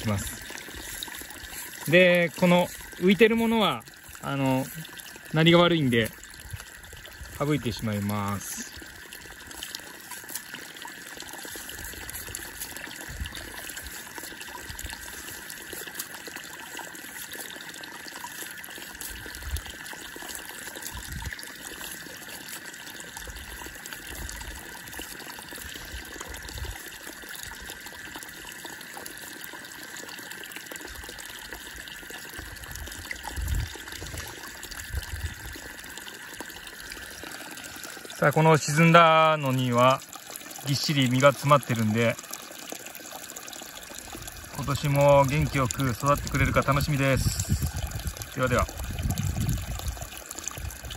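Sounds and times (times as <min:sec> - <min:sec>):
water pouring from a pipe: 0:00.0 - 0:50.9.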